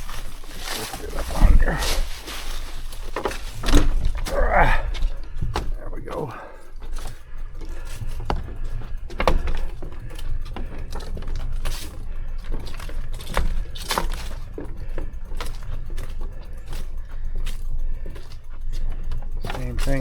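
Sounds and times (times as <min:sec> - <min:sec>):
bike rattling over rough ground: 0:00.0 - 0:20.0.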